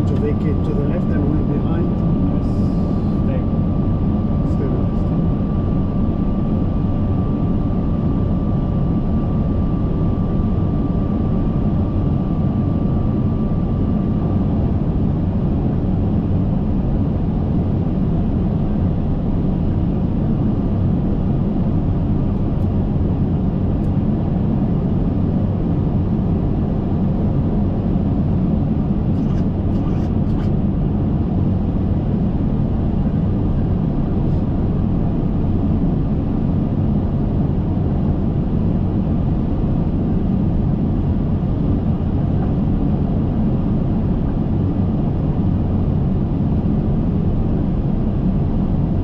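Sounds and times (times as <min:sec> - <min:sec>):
airflow and engine noise: 0:00.0 - 0:49.0.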